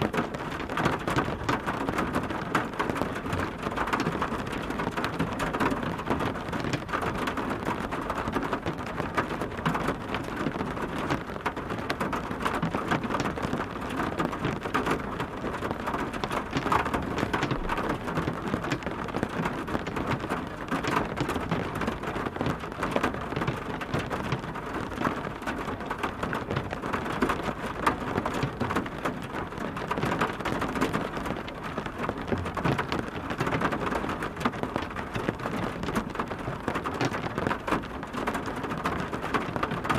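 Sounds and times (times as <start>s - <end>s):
heavy rain hitting a surface: 0.0s - 39.9s.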